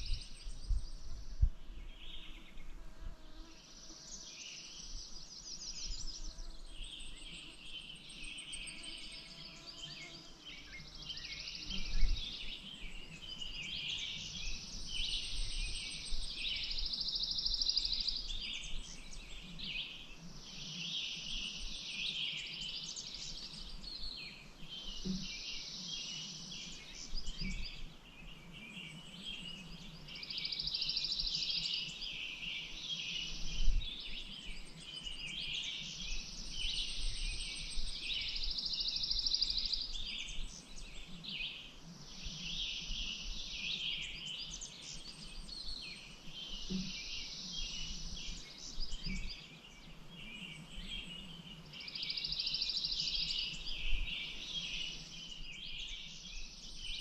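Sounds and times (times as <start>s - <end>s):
birds chirping in chorus: 0.0s - 57.0s.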